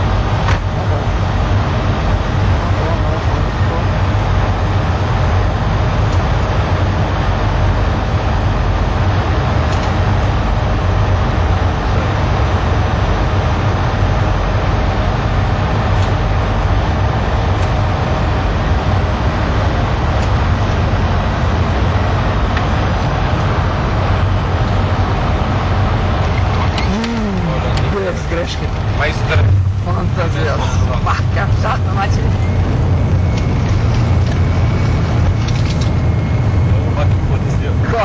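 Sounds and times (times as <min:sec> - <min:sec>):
airliner cabin engine rumble: 0:00.0 - 0:38.0.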